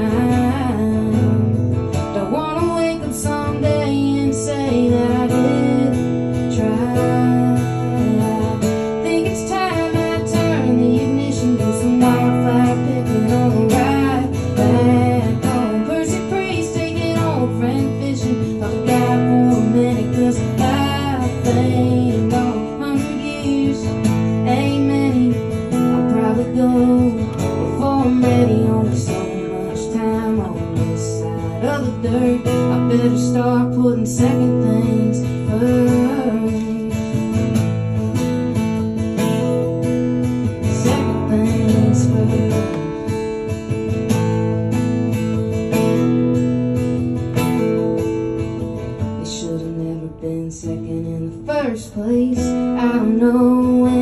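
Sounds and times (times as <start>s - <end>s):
acoustic guitars strumming and picking: 0.0s - 54.0s.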